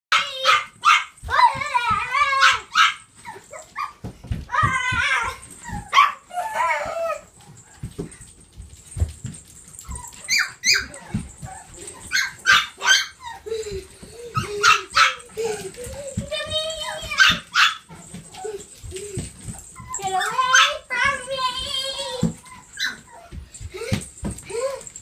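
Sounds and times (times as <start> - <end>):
puppies barking and yipping: 0.1 - 25.0.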